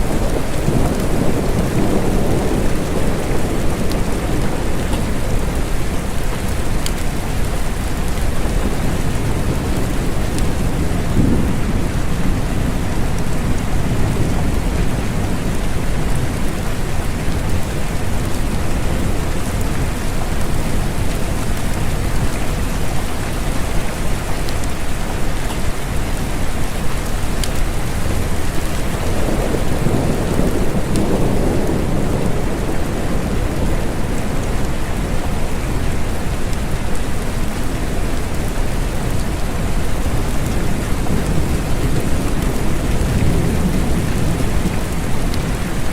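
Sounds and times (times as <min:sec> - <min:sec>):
low thunder rumble: 0:00.0 - 0:24.2, 0:27.3 - 0:45.9
rain falling: 0:00.0 - 0:45.9.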